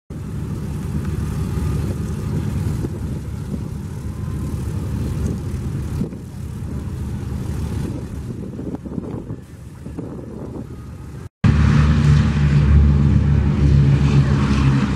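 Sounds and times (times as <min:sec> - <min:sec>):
radial aircraft engines droning: 0:00.1 - 0:14.9.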